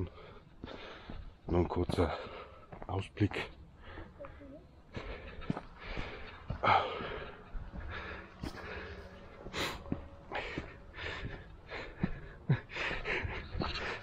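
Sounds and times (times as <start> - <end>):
man breathing hard: 0.0 - 1.4, 3.8 - 14.0.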